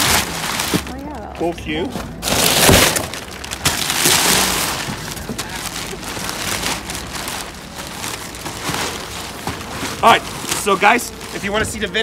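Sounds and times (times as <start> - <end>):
packing paper tearing and crinkling: 0.0 - 12.0.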